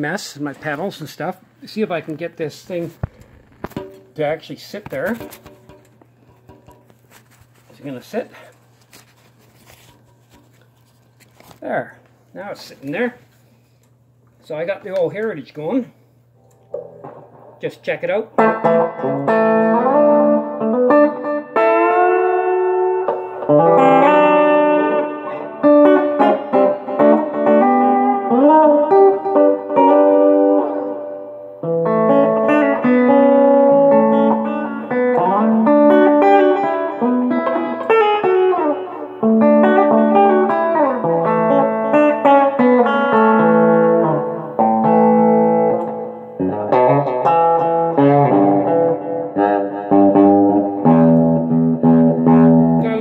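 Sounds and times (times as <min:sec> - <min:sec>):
electric guitar playing: 0:01.6 - 0:11.6, 0:16.4 - 0:53.0.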